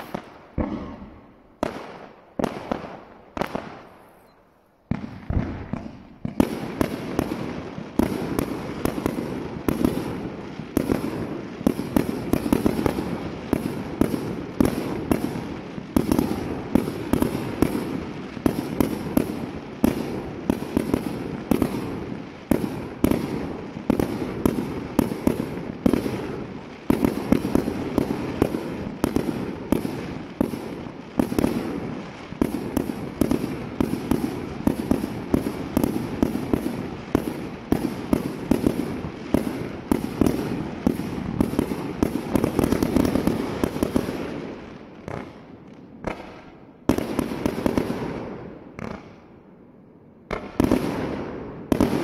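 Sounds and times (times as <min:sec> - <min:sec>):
fireworks bangs: 0:00.0 - 0:49.4, 0:50.2 - 0:52.0.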